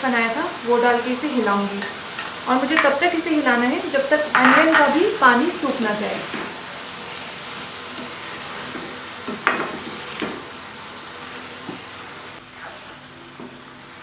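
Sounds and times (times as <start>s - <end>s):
food sizzling in oil: 0.0s - 12.4s.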